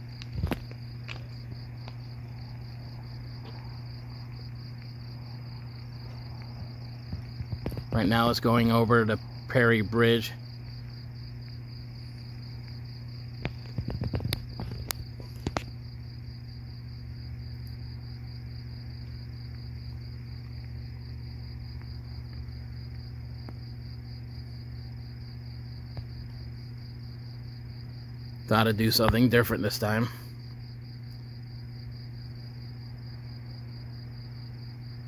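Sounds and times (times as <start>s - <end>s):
crickets chirping: 0.0s - 35.0s
low steady hum: 0.0s - 35.0s.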